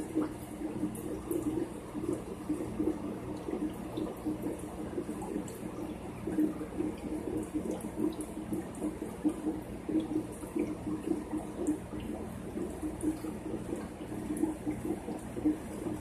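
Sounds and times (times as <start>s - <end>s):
aquarium water splashing and bubbling: 0.0s - 16.0s.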